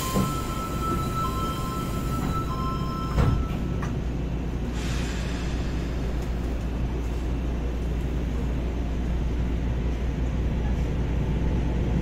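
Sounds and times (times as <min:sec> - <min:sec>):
train hum: 0:00.0 - 0:12.0.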